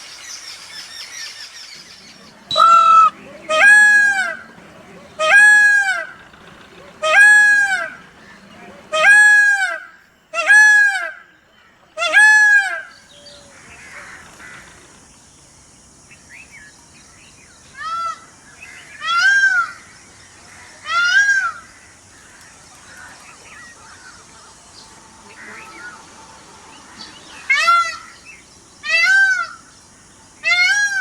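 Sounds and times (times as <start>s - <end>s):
steady high hiss: 0.0s - 10.4s, 12.9s - 31.0s
peacock honking calls: 0.6s - 15.1s, 17.6s - 31.0s.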